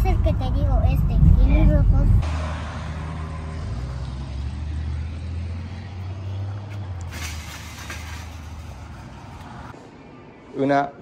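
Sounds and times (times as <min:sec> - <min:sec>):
vehicle engine humming: 0:00.0 - 0:09.9.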